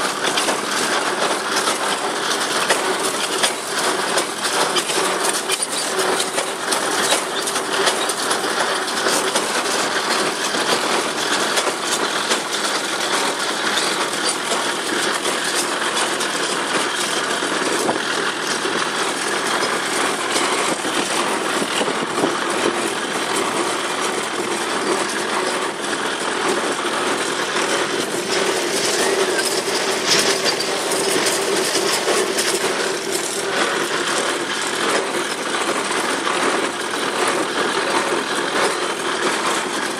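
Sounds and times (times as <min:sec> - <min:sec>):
hay baler clattering: 0:00.0 - 0:39.9
tractor engine under load: 0:00.0 - 0:39.9.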